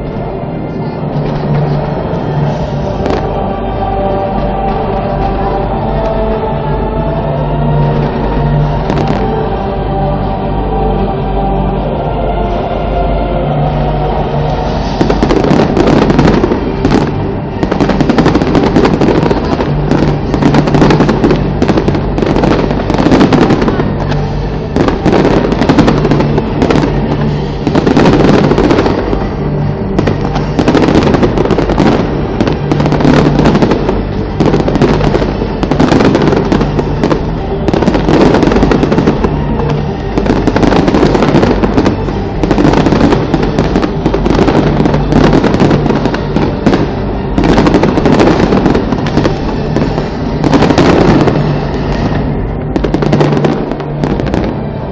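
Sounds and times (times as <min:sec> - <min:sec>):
fireworks bangs and crackles: 0:00.0 - 0:03.7, 0:07.8 - 0:09.4, 0:14.4 - 0:54.9
low steady tone: 0:00.0 - 0:54.9.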